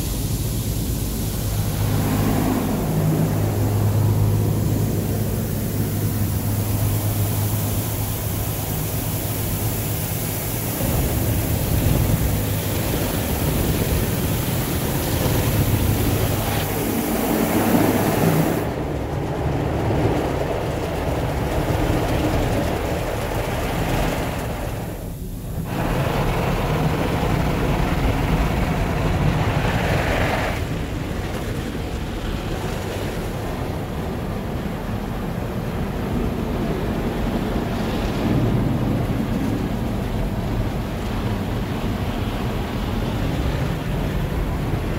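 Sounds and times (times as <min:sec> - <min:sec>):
water spray hissing and drumming: 0:00.0 - 0:44.9.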